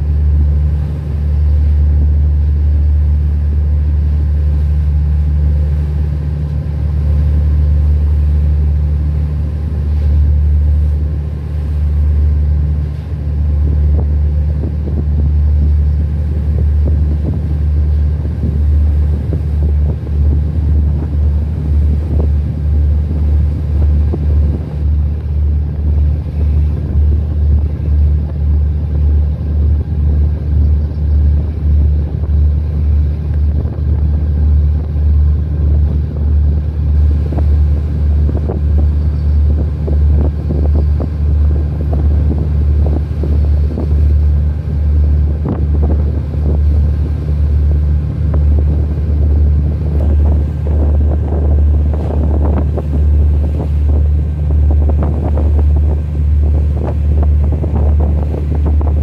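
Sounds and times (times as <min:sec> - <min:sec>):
boat engine droning: 0:00.0 - 0:59.0
water noise: 0:00.0 - 0:59.0
wind noise: 0:00.0 - 0:59.0.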